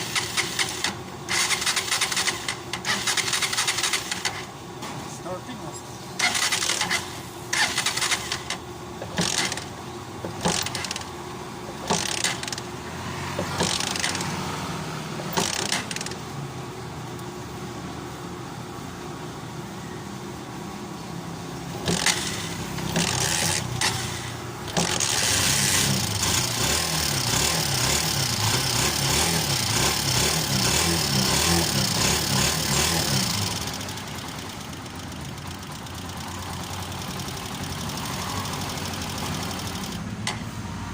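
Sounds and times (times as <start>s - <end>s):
motorcycle engine revving and idling: 0.0s - 4.6s, 6.1s - 16.7s, 21.6s - 40.9s.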